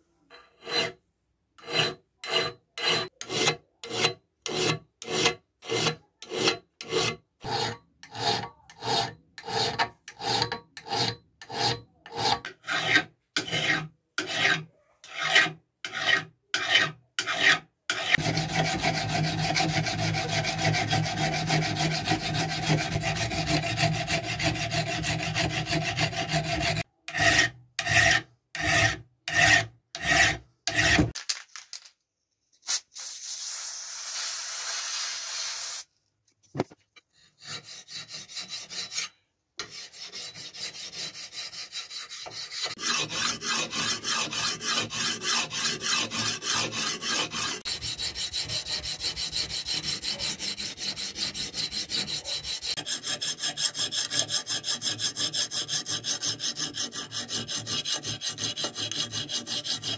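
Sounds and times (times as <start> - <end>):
file rasping on steel blade: 0.3 - 1.0, 1.6 - 31.2, 37.1 - 59.9.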